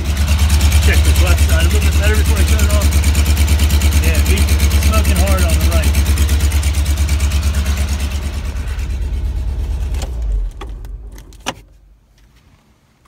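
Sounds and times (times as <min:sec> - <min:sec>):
car engine idling: 0:00.0 - 0:12.6
engine running down: 0:00.0 - 0:12.6.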